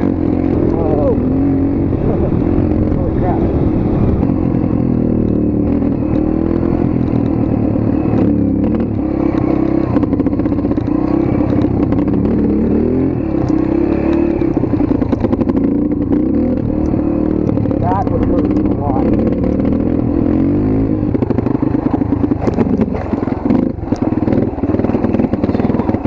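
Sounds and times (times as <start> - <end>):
motorcycle engine revving: 0.0 - 26.0
clatter: 4.2 - 20.3, 21.0 - 26.0.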